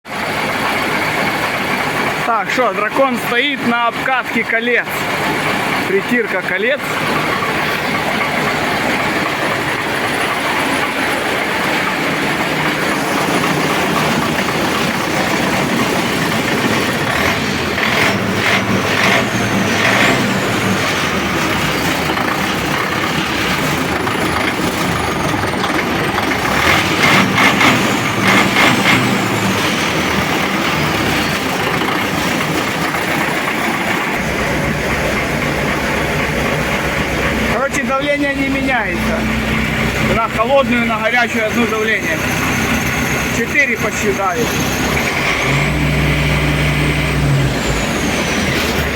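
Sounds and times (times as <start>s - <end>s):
diesel engine running: 0.0s - 48.9s
engine clattering: 0.0s - 48.9s.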